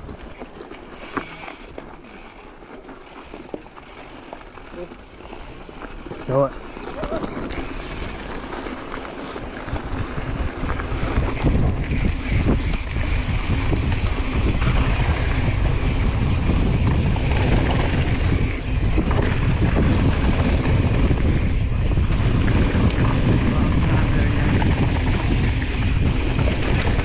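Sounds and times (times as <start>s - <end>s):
bike tyres rolling on dirt: 0.0s - 27.0s
wind buffeting microphone: 4.8s - 27.0s.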